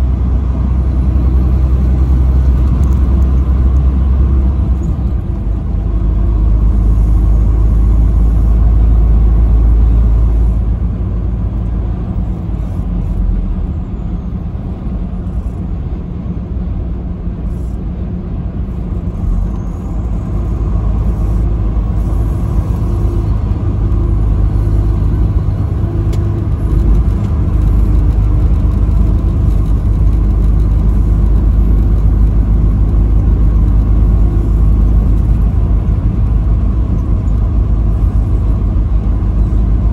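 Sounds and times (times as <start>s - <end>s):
vehicle driving at highway speed: 0.0s - 39.9s.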